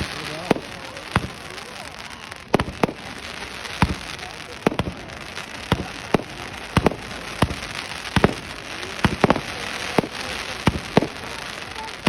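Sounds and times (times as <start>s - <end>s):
crackling hiss: 0.0s - 12.0s
firework bangs: 0.0s - 12.0s.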